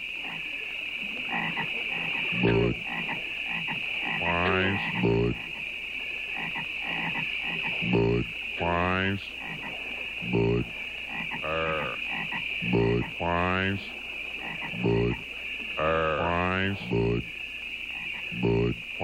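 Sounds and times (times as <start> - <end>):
frogs croaking: 0.0 - 19.0
high-pitched swamp drone: 0.0 - 19.0.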